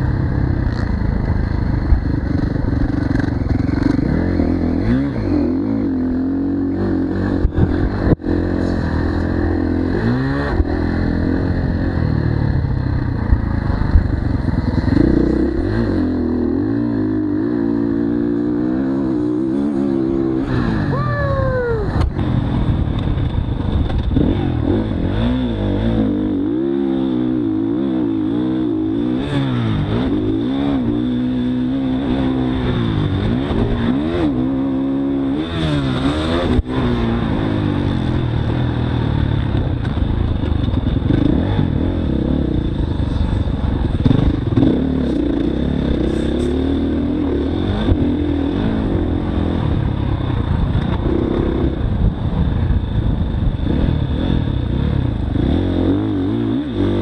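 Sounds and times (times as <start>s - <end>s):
dirt bike engine revving: 0.0s - 52.4s, 53.6s - 57.0s.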